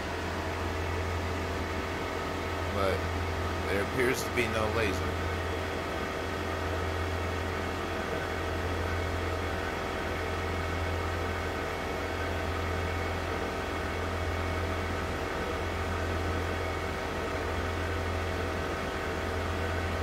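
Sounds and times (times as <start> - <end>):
laser cutter mechanical hum: 0.0 - 20.0.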